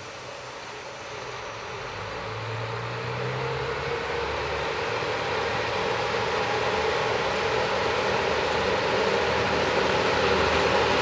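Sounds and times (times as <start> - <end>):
diesel train engine: 0.0 - 11.0
rail and wheel noise: 0.0 - 11.0.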